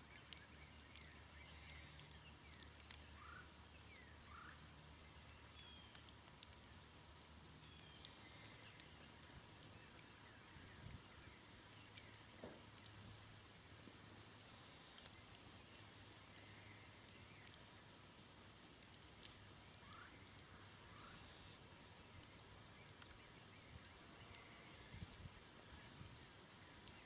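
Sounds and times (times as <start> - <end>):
faint bird chirps: 0.0 - 13.1, 14.4 - 17.8, 18.6 - 27.0
campfire crackling: 0.0 - 27.0.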